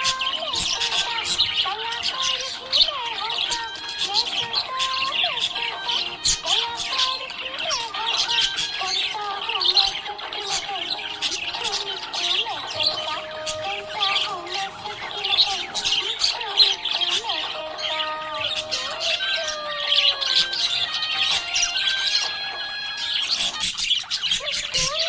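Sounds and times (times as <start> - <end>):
budgies chirping and squawking: 0.0 - 25.0
music playing: 0.0 - 25.0.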